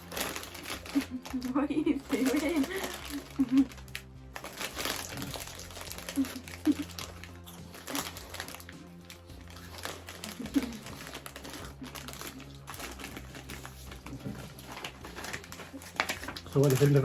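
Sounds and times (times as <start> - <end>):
background music: 0.0 - 17.0
bag crinkling: 0.0 - 17.0
cheese puffs crunching: 0.0 - 17.0.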